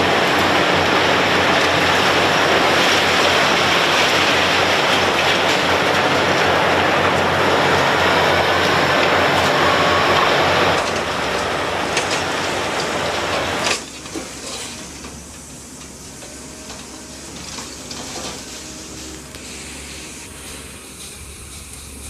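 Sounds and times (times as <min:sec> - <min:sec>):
loud rushing machinery noise: 0:00.0 - 0:22.0.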